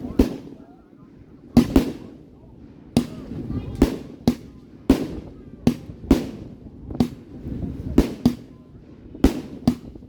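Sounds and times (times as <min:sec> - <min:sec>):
firework bangs with rumbling echo: 0:00.0 - 0:10.0.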